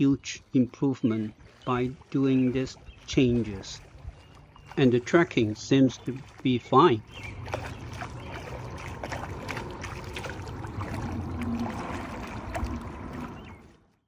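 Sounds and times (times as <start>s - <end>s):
kayak paddle splashing in water: 1.1s - 14.0s
low outdoor rumble: 2.6s - 13.9s.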